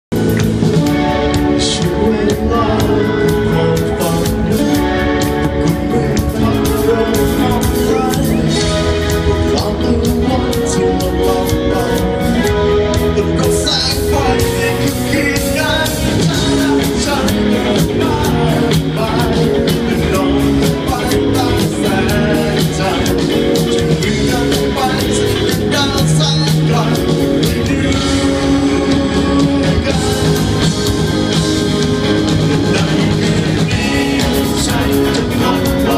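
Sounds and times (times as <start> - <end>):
live rock band playing: 0.1 - 35.9
man singing: 0.8 - 35.9.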